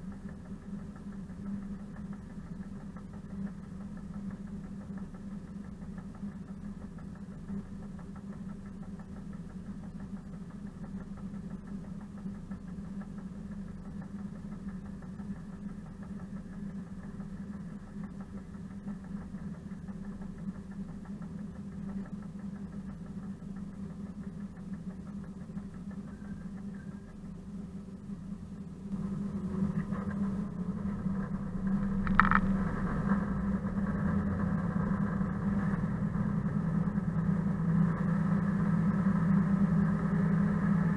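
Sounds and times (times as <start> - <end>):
locomotive diesel engine running: 0.0 - 40.9.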